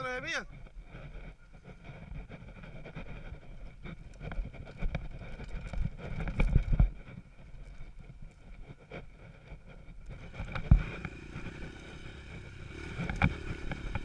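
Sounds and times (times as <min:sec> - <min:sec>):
wind on microphone: 0:00.5 - 0:14.0
bike rumbling over rough dirt: 0:00.6 - 0:14.0.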